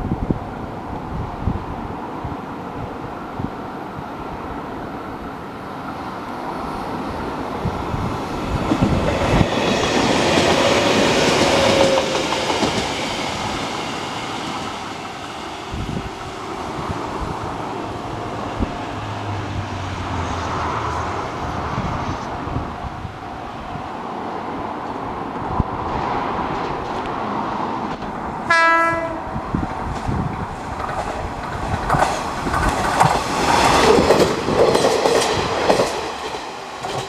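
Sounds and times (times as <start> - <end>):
train approaching: 0.0 - 37.0
train wheels rumbling on rails: 5.8 - 37.0.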